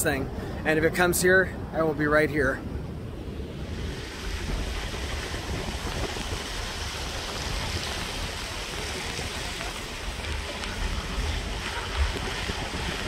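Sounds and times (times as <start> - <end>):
gusty wind rushing: 0.0 - 13.0
wind buffeting microphone: 0.0 - 13.0.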